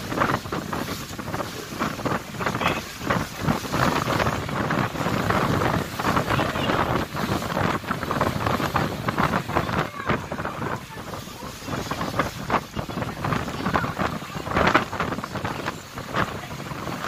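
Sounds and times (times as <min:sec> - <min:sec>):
rushing water: 0:00.0 - 0:17.0
wind buffeting the microphone: 0:00.0 - 0:17.0.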